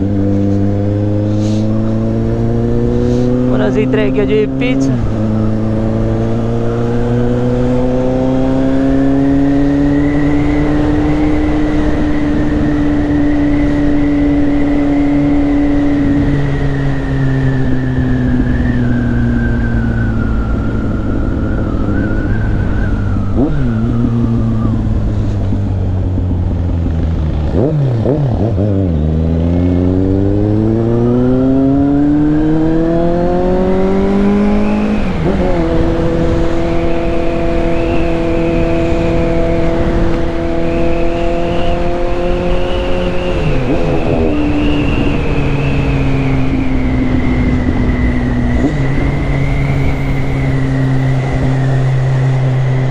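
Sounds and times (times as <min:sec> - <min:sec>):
motorcycle engine: 0:00.0 - 0:52.9
wind rush on microphone: 0:00.0 - 0:52.9.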